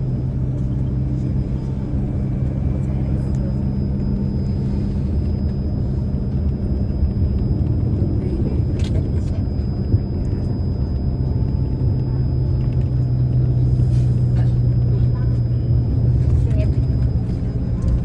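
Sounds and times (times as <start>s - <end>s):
bus engine drone: 0.0s - 18.0s
road noise: 0.0s - 18.0s.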